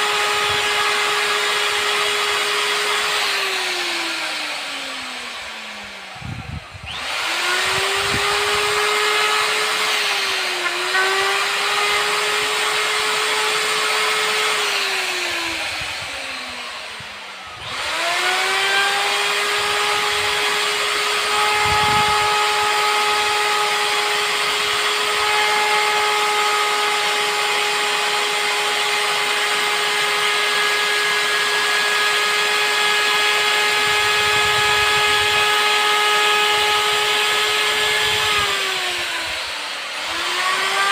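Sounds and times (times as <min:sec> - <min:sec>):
electric router motor whining: 0:00.0 - 0:40.9.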